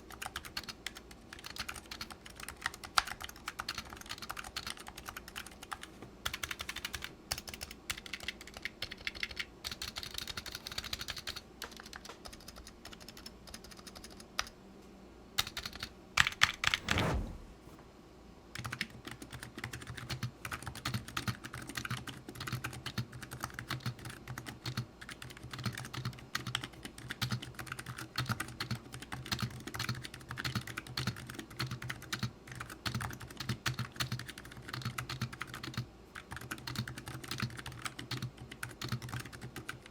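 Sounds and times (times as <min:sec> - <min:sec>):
fast keyboard typing: 0:00.0 - 0:14.6, 0:15.4 - 0:16.8, 0:18.6 - 0:39.9.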